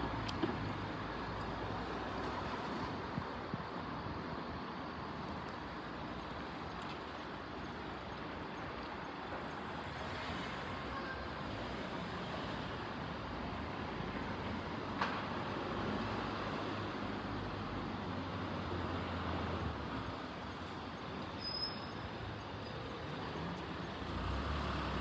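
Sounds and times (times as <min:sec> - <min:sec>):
road traffic hum: 0:00.0 - 0:25.0.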